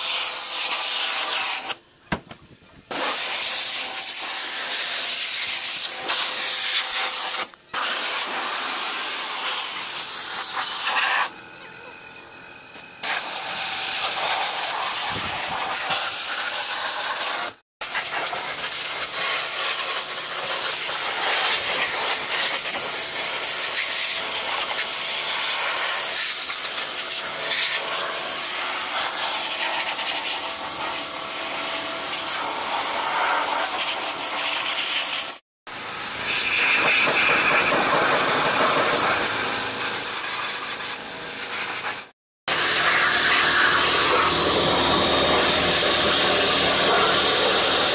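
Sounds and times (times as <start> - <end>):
high-pressure water jet hissing: 0.0 - 1.8, 2.9 - 11.3, 13.0 - 47.9.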